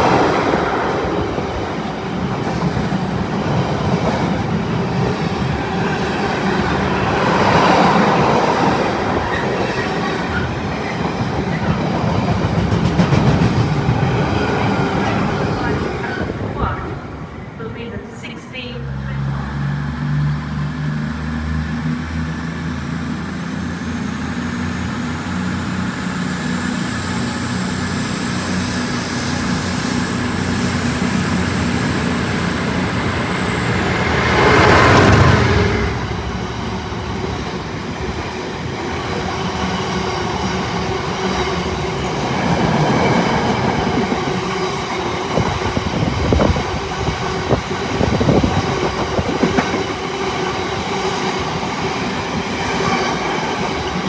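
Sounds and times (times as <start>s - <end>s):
train humming with high whine: 0.0s - 54.0s.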